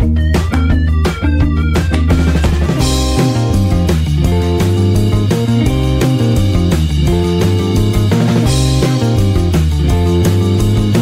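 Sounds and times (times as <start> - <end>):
guitar band music: 0.0 - 11.0.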